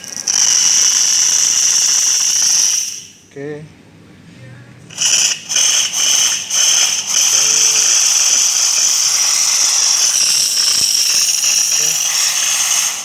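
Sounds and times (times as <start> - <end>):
espresso machine steam hissing: 0.0 - 3.2, 4.9 - 13.0.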